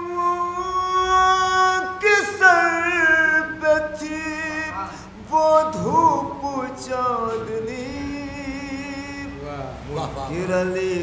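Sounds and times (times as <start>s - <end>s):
man singing into a microphone: 0.0s - 9.4s, 10.3s - 11.0s.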